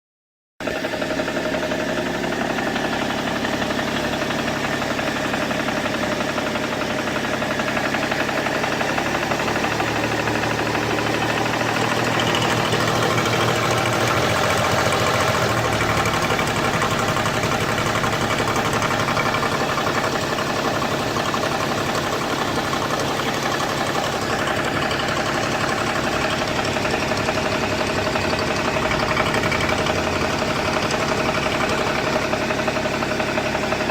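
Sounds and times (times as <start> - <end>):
diesel engine running: 0.6 - 33.9.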